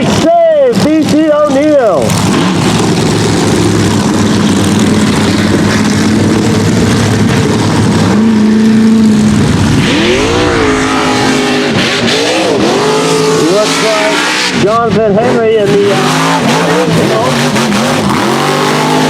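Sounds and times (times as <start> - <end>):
truck engines running hard: 0.0 - 19.0.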